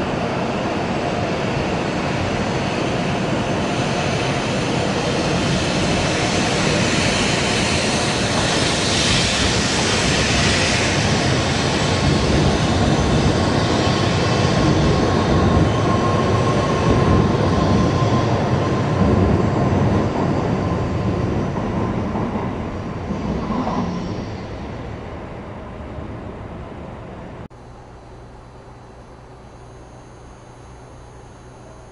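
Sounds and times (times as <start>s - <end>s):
high-speed train passing: 0.0s - 27.9s.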